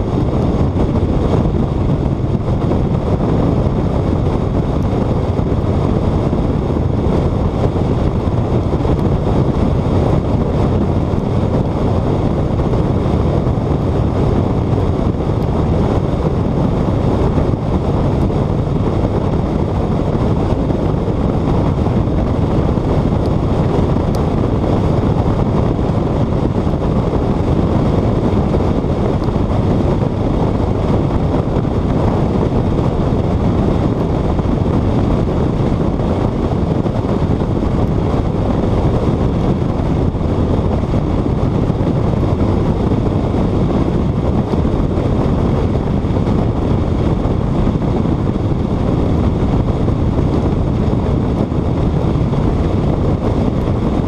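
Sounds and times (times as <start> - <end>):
car and tyre rumble: 0.0 - 54.0
wind buffeting microphone: 0.0 - 54.0.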